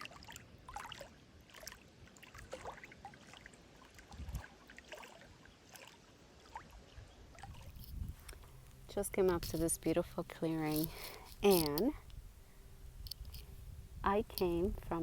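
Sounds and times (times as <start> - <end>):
water lapping and trickling: 0.0 - 15.0.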